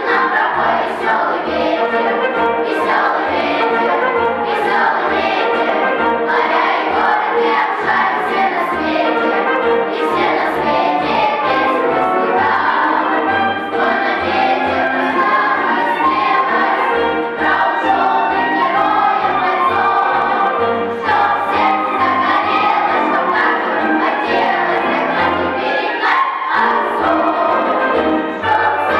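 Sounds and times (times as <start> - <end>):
children's choir singing: 0.0 - 28.9
instrumental accompaniment: 0.0 - 28.9.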